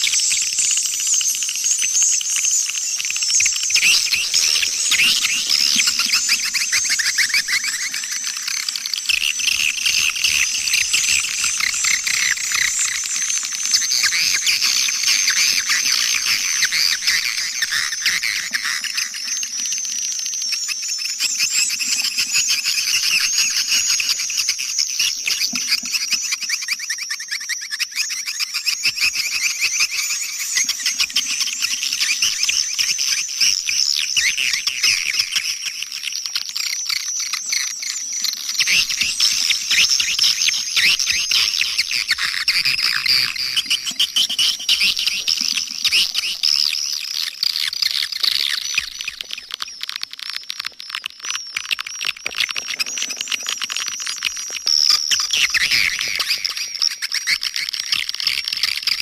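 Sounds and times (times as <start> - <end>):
rapid high-pitched bird chirps: 0.0 - 49.9.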